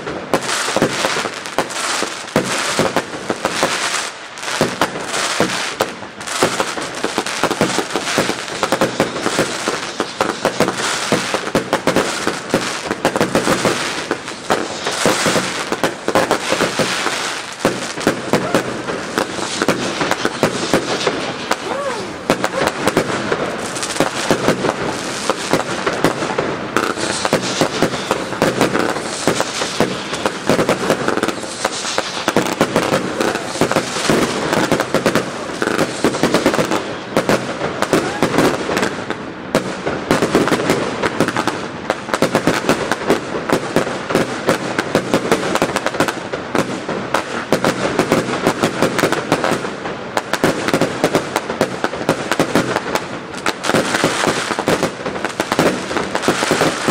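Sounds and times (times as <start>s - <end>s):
fireworks banging: 0.0s - 56.9s
fireworks crackling: 0.0s - 56.9s.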